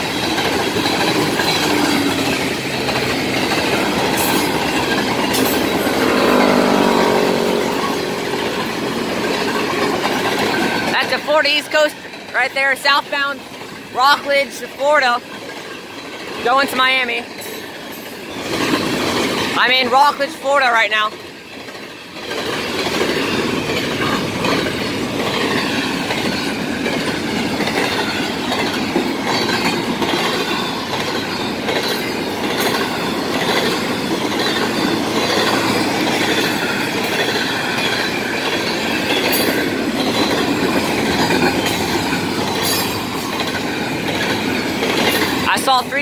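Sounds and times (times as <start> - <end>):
train wheels rumbling on rail: 0.0 - 46.0
wheels clacking over rail joints: 0.0 - 46.0.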